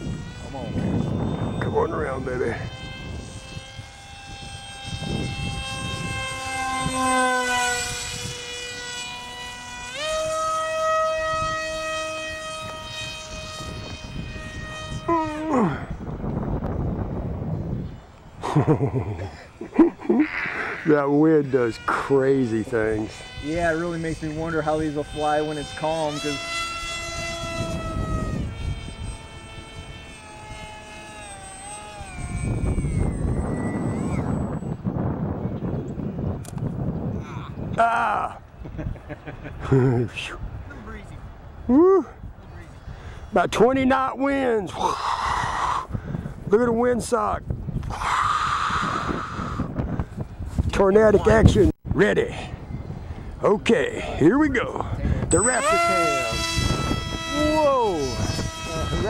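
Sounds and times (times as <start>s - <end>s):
model jet motor whining: 0.0s - 37.8s, 38.4s - 59.0s
wind rumble on microphone: 0.0s - 59.0s.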